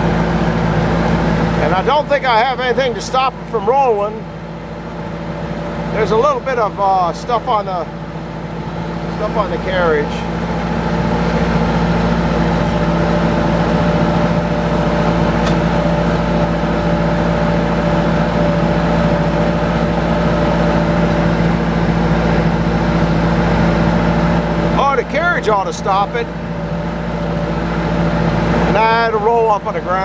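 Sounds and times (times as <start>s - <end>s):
engine running steadily: 0.0s - 30.0s.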